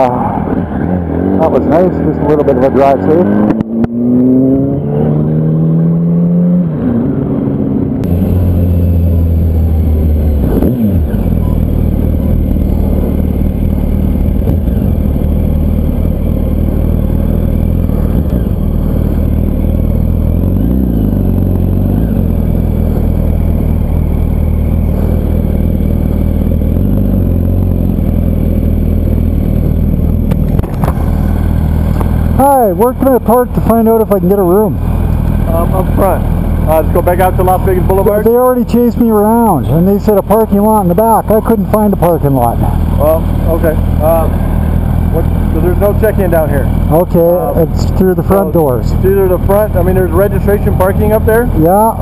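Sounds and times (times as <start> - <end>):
motorcycle engine running: 7.0 - 52.0.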